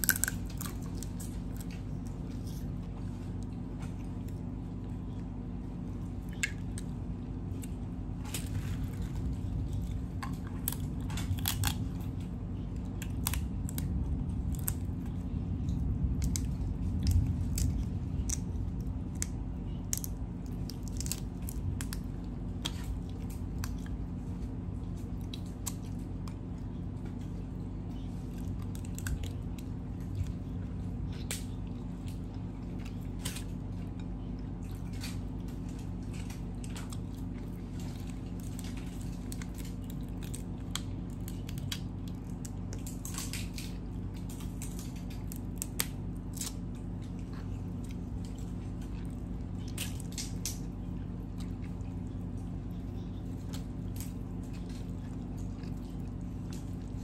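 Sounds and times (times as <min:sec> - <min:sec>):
crab shells cracking: 0:00.0 - 0:02.8, 0:06.2 - 0:15.1, 0:15.7 - 0:27.2, 0:31.2 - 0:57.0
chewing: 0:00.0 - 0:57.0
low hum: 0:00.0 - 0:57.0.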